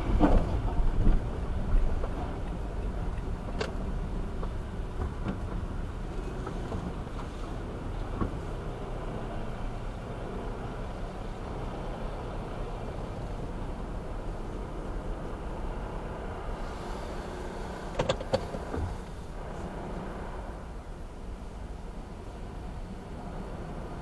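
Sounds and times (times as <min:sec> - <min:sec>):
low rumble of city traffic: 0:00.0 - 0:24.0.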